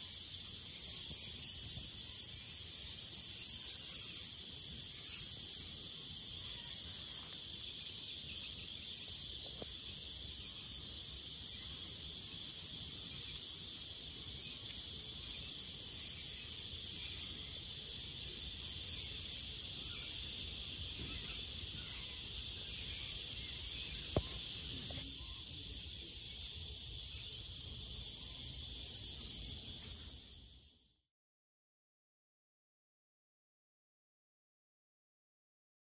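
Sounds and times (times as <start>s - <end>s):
insect chorus: 0.0s - 31.0s.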